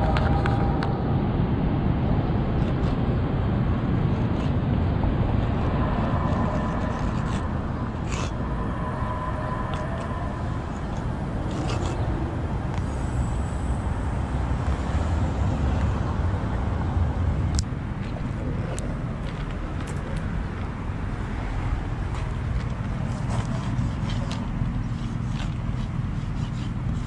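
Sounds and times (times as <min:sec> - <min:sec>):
street traffic rumble: 0:00.0 - 0:27.0.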